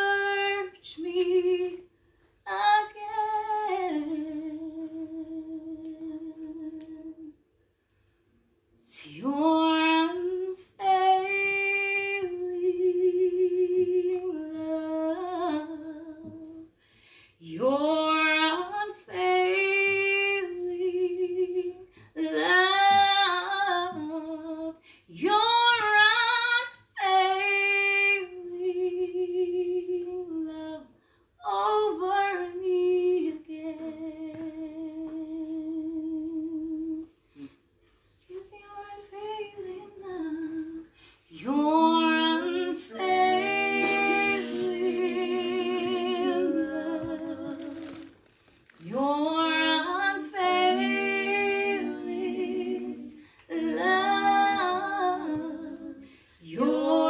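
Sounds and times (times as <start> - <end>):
woman singing unaccompanied: 0.0 - 1.9, 2.5 - 7.3, 8.9 - 16.7, 17.4 - 37.1, 38.2 - 48.2, 48.8 - 57.0.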